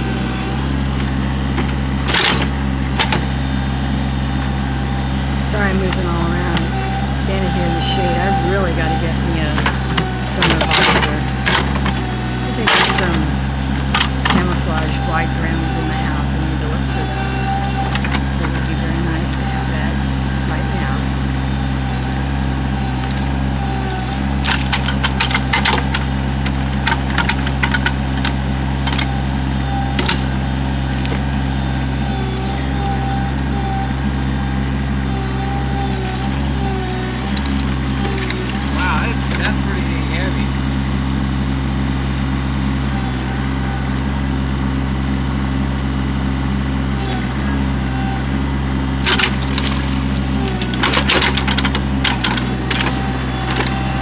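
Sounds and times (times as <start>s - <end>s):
wood cracking and knocking: 0.0s - 13.2s, 16.8s - 44.4s, 48.9s - 54.0s
excavator diesel engine running: 0.0s - 54.0s.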